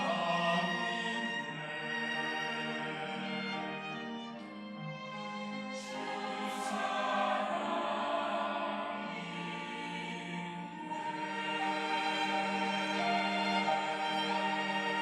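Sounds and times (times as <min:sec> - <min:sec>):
church choir singing: 0:00.0 - 0:15.0.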